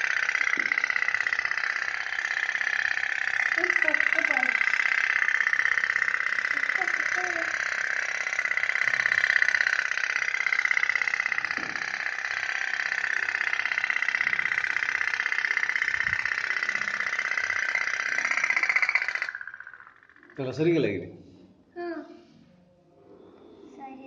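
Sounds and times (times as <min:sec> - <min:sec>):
toy steam boat putt-putt rattle: 0:00.0 - 0:20.4.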